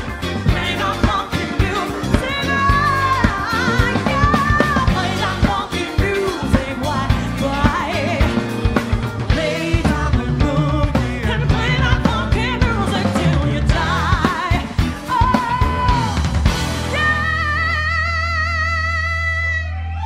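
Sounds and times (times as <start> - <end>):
live rock-pop band: 0.0 - 20.0
woman singing with vibrato: 0.4 - 20.0.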